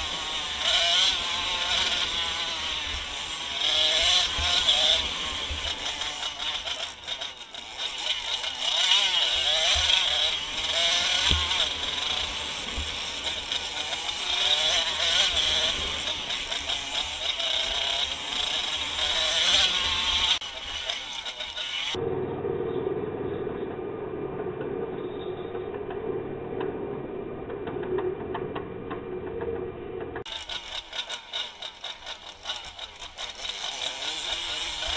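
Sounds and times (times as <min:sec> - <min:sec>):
off-road motorcycle engines revving: 0:00.0 - 0:23.8, 0:24.4 - 0:34.9.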